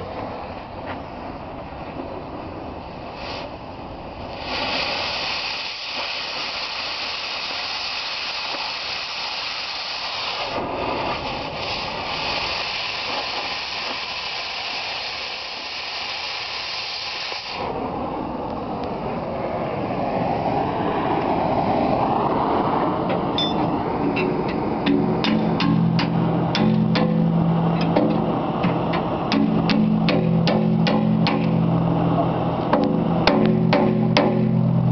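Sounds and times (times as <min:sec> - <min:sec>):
torch flame rushing: 0:00.0 - 0:33.3
cutting torch hissing: 0:02.5 - 0:33.3.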